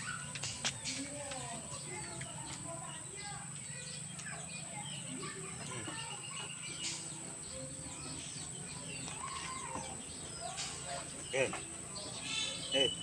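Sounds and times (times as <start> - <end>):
bird chirps and calls: 0.0 - 13.0.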